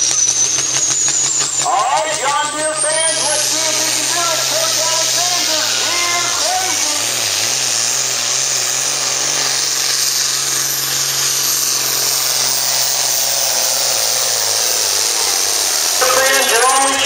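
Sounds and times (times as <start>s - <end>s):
hissing whine: 0.0s - 17.0s
tractor diesel engine at full load: 0.0s - 17.0s.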